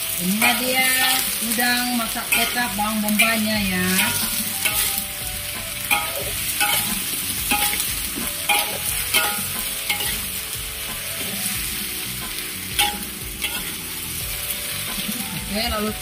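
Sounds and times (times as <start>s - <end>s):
prawns sizzling in a wok: 0.0s - 16.0s
metal spatula scraping a wok: 0.1s - 15.3s.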